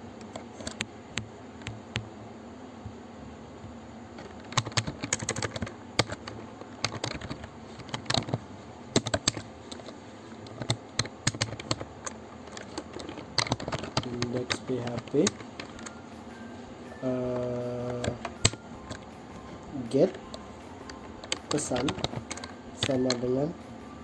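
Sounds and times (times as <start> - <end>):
keyboard typing: 0.3 - 2.1, 4.2 - 23.5.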